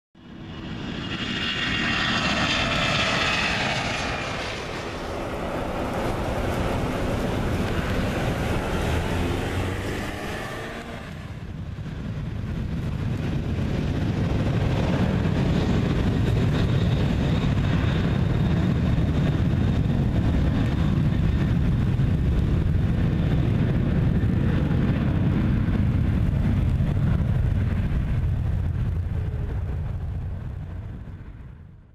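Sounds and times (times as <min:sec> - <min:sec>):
jet engine rumble: 0:00.2 - 0:31.9.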